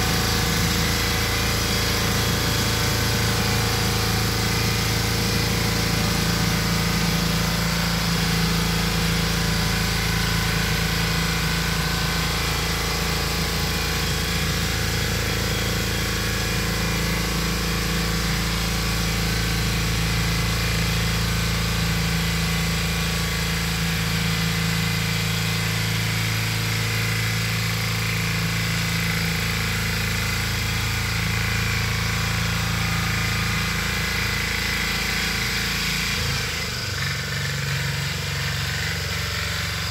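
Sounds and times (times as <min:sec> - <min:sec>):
tiller engine running: 0:00.0 - 0:39.9.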